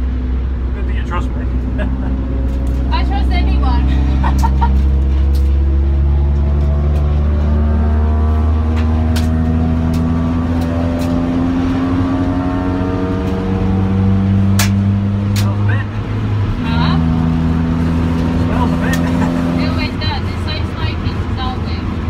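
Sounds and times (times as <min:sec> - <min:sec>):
car engine accelerating: 0:00.0 - 0:22.0
road and wind noise: 0:00.0 - 0:22.0.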